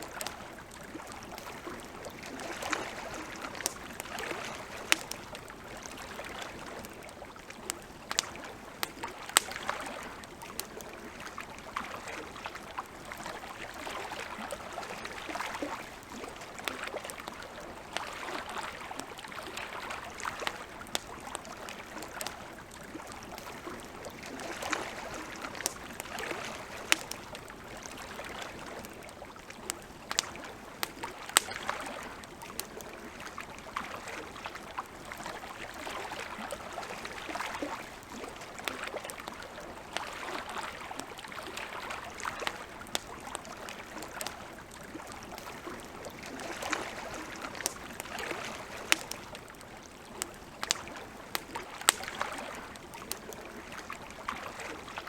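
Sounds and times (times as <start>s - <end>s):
campfire crackling: 0.0s - 55.0s
lake water washing: 0.0s - 55.0s.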